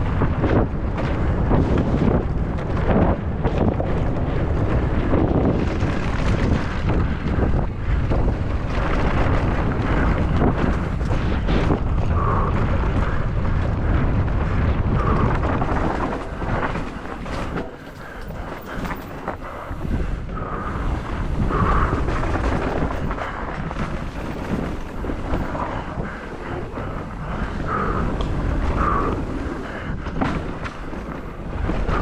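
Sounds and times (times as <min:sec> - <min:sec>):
bike knocks and rattles: 0:00.0 - 0:32.0
wind rushing over microphone: 0:00.0 - 0:32.0.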